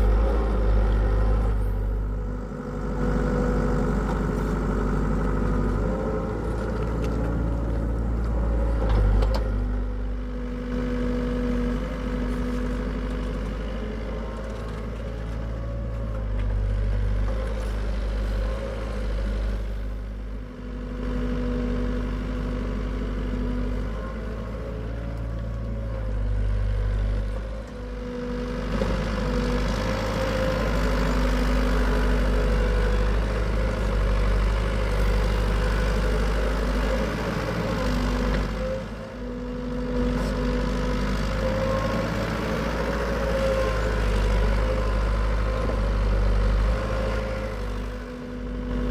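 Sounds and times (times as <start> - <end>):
excavator diesel engine digging: 0.0 - 48.9.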